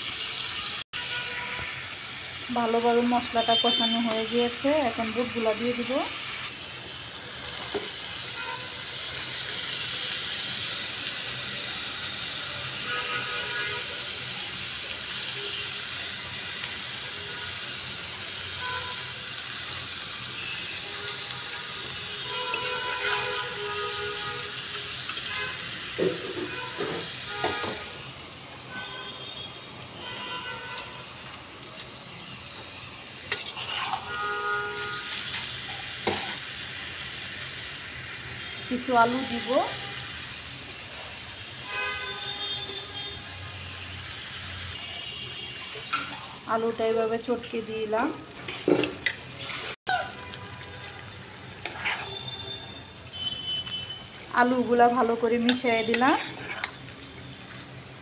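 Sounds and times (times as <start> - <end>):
chickpeas sizzling in oil: 0.0 - 58.0.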